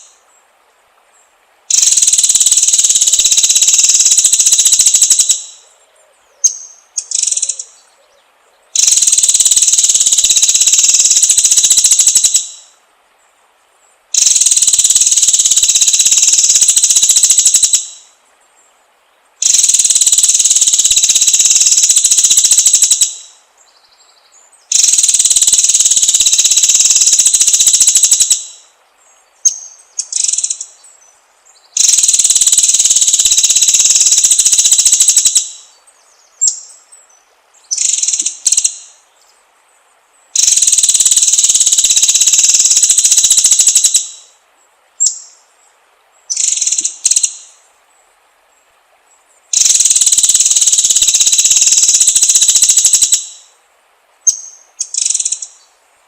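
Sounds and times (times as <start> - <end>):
high buzzing bird trills: 0.0 - 0.3, 1.7 - 12.8, 14.1 - 18.2, 19.4 - 39.4, 40.2 - 44.4, 45.0 - 47.7, 49.1 - 53.6, 54.2 - 55.8.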